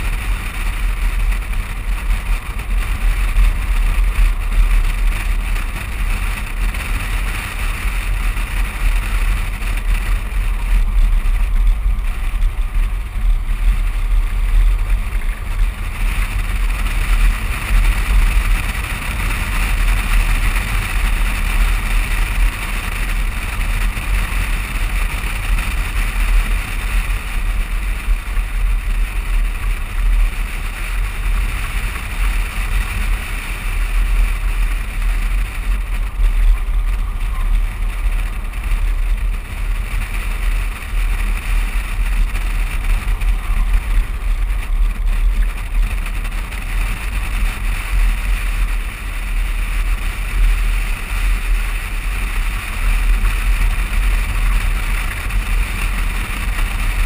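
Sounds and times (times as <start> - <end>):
low rumble: 0.0 - 57.0
wind and road noise: 0.0 - 57.0.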